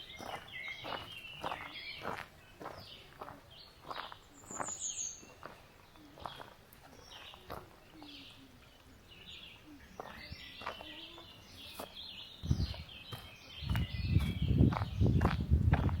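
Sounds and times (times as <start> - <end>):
footsteps on path: 0.0 - 16.0
small birds singing: 0.0 - 16.0.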